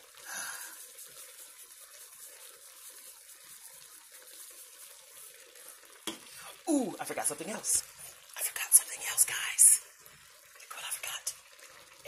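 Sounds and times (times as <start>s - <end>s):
food simmering in a wok: 0.0s - 12.0s
pasta boiling: 0.0s - 12.0s.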